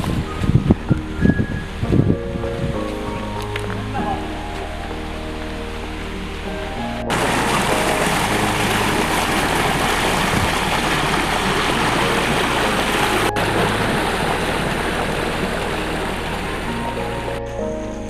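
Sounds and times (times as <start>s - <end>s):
background music with low notes: 0.0s - 18.0s
waterfall rushing: 0.0s - 18.0s.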